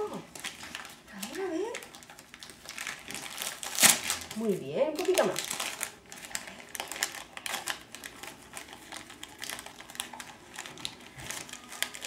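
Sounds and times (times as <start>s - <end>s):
wrapping paper crinkling and tearing: 0.0s - 12.0s.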